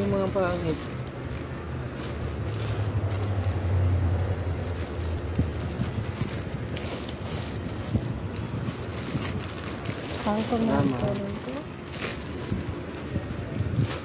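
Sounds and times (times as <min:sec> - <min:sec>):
plastic bags rustling: 0:00.0 - 0:14.0.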